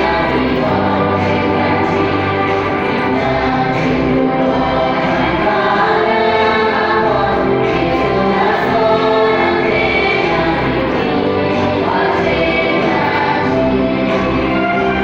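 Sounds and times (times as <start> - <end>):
choir singing a hymn: 0.0 - 15.0
musical accompaniment: 0.0 - 15.0.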